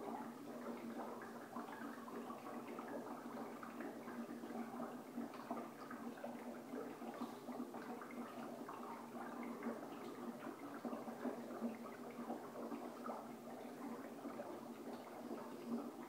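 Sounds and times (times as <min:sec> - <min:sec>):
water bubbling and gurgling: 0:00.0 - 0:16.0.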